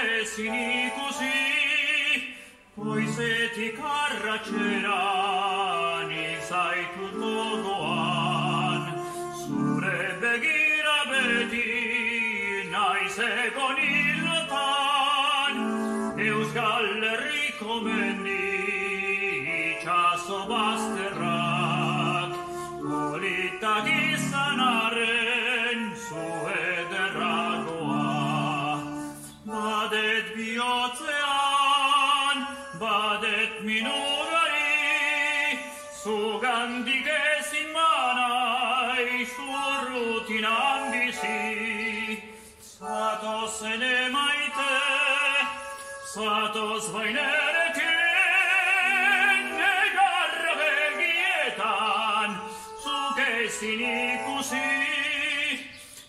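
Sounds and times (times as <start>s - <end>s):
man singing operatically: 0.0s - 55.8s
instrumental accompaniment: 0.1s - 30.5s, 38.3s - 56.0s.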